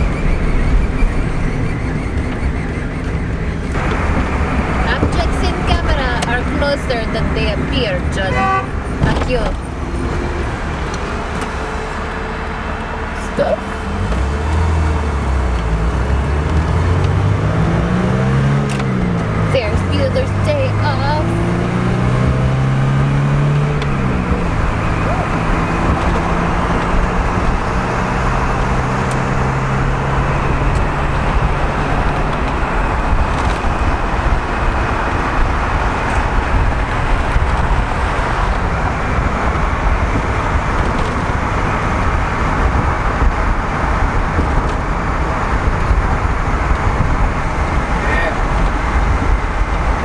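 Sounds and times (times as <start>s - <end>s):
car engine drone: 0.0s - 50.0s
wind and road noise: 0.0s - 50.0s.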